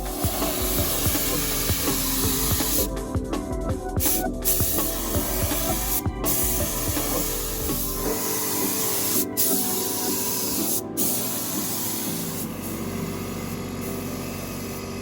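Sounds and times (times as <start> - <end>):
spray gun hissing: 0.0 - 3.0, 4.0 - 15.0.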